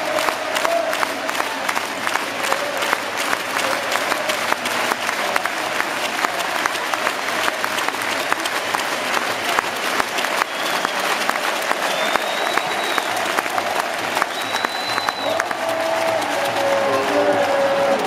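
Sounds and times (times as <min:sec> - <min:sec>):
stadium crowd applauding: 0:00.0 - 0:18.0.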